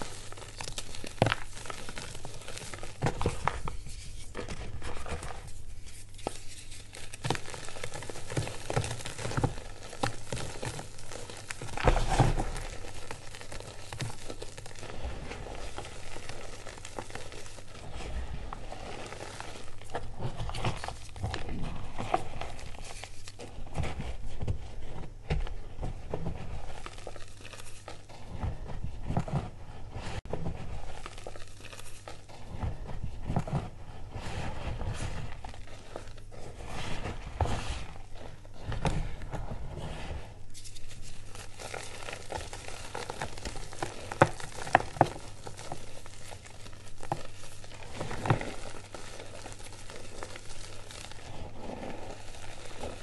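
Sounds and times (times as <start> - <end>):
hands crumbling chalk: 0.0 - 53.0.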